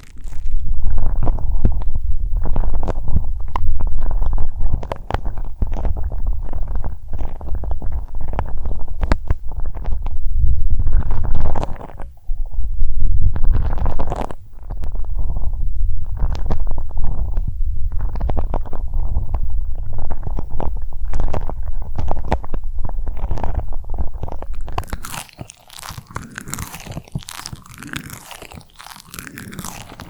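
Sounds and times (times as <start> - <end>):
rubbing on microphone: 0.0 - 30.0.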